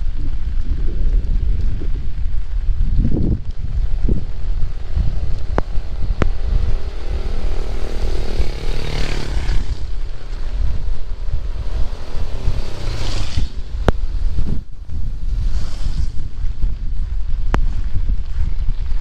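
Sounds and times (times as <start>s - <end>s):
heavy rain: 0.0s - 19.0s
vehicle passing on wet road: 0.0s - 19.0s
wind buffeting microphone: 0.0s - 19.0s.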